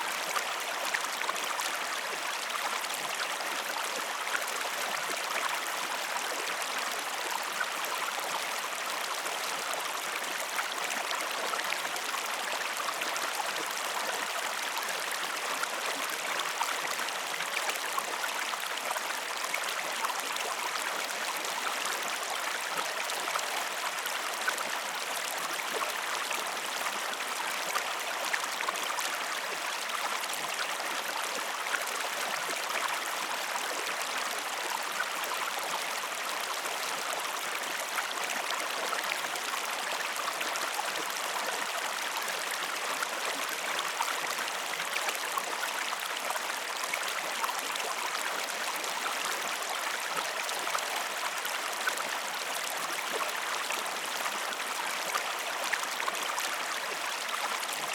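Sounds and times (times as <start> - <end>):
stream flowing: 0.0 - 57.9.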